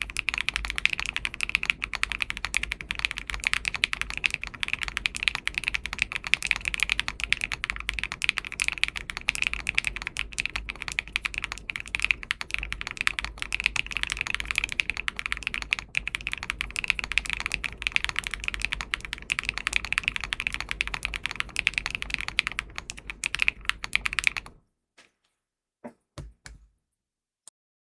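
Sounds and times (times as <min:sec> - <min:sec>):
fast typing on mechanical keyboard: 0:00.0 - 0:24.6.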